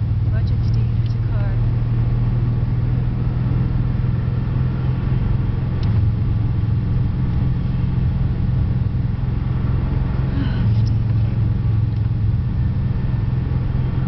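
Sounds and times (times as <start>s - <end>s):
car engine and tyre drone: 0.0s - 14.0s.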